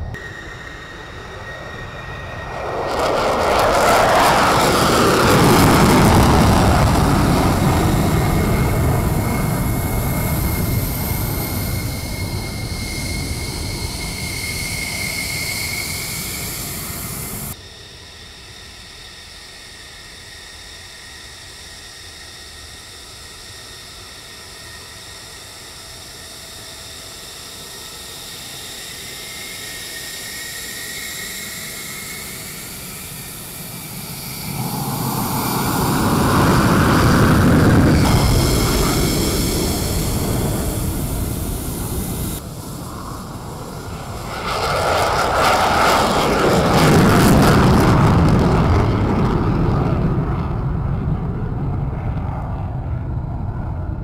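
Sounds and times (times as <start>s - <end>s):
jet engines whining: 0.0s - 54.0s
jet takeoff roar: 0.0s - 54.0s.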